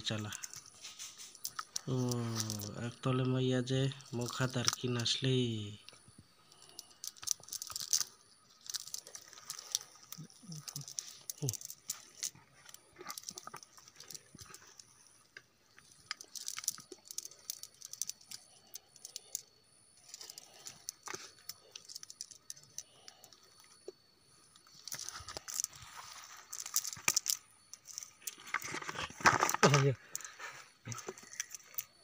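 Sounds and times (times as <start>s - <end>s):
dry grass and twigs crackling: 0.0s - 32.0s.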